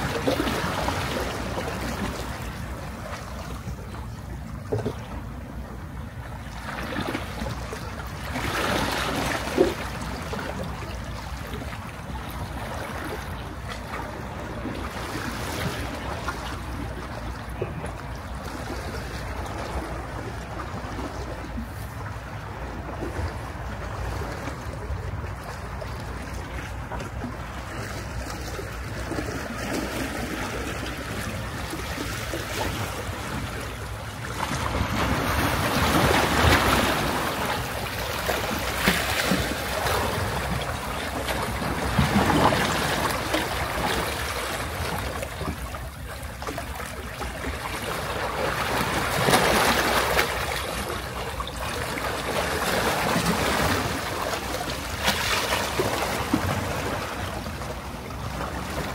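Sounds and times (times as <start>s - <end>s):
waves washing onto beach: 0.0s - 58.9s.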